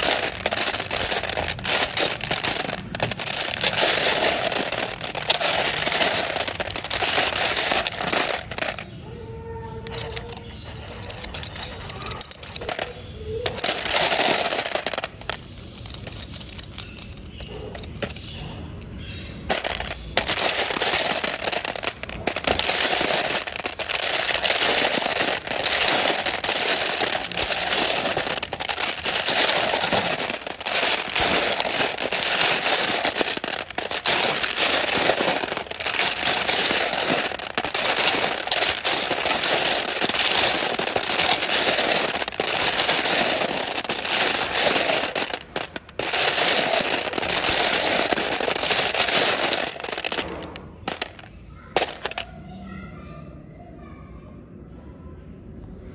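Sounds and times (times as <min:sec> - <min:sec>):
glass marbles clattering: 0:00.0 - 0:52.3.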